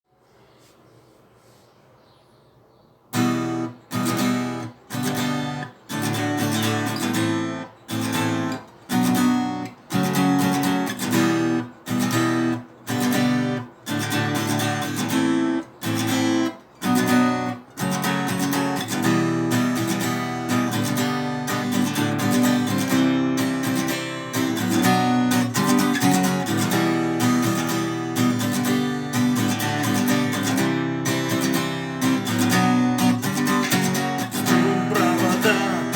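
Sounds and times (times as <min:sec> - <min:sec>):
acoustic guitar strumming: 0:03.1 - 0:35.9.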